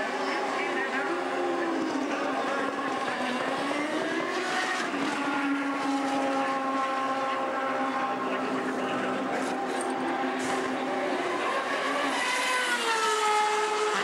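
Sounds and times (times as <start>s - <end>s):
race car engines running: 0.0s - 14.0s.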